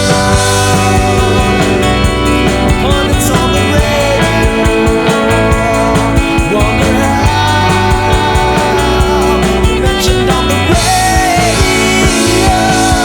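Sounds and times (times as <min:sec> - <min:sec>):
steady drum beat: 0:00.0 - 0:13.0
sustained rock chords: 0:00.0 - 0:13.0.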